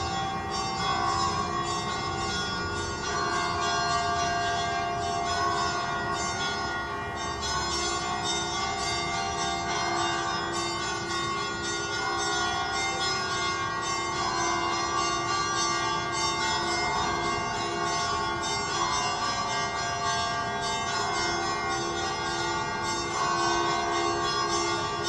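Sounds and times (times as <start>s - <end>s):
church bells pealing: 0.0s - 25.0s.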